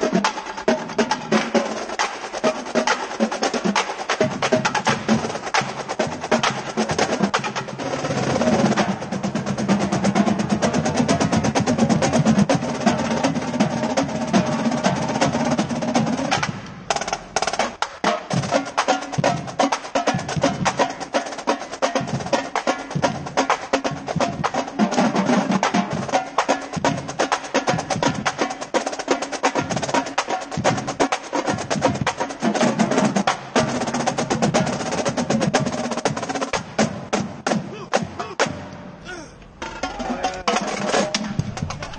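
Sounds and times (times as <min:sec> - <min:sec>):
marching drumline playing: 0:00.0 - 0:41.9.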